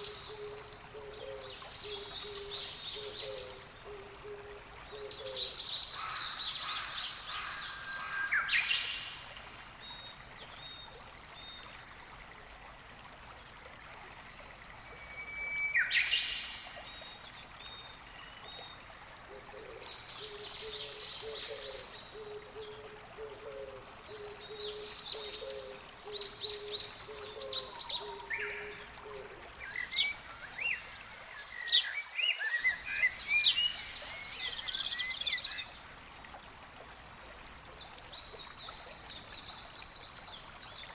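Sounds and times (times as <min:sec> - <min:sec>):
water flowing softly: 0:00.0 - 0:40.9.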